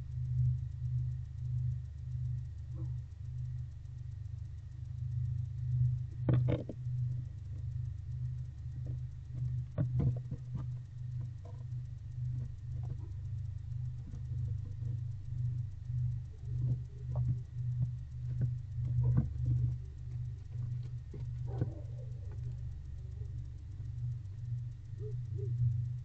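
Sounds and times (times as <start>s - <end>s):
pulsing low hum: 0.0s - 26.0s.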